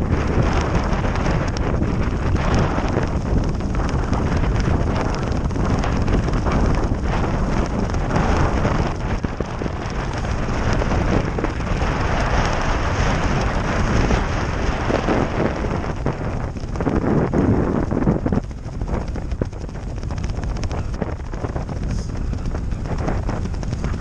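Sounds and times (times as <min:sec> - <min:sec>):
bike tyres rumbling on asphalt: 0:00.0 - 0:24.0
wind buffeting microphone: 0:00.0 - 0:24.0.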